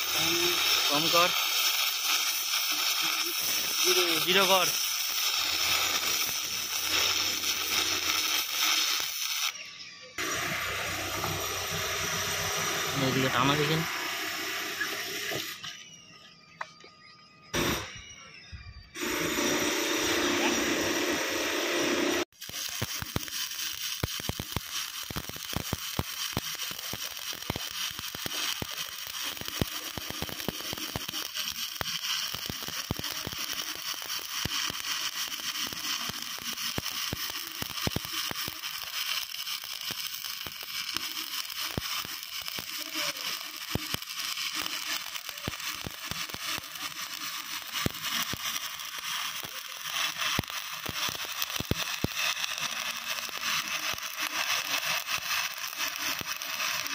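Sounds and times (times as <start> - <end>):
stick welding arc crackling: 0.0 - 16.2, 19.0 - 56.9.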